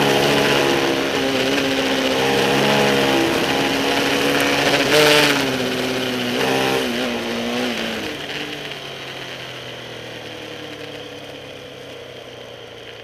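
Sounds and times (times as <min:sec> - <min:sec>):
road and wind hiss: 0:00.0 - 0:13.0
vehicle engine decelerating: 0:00.0 - 0:13.0.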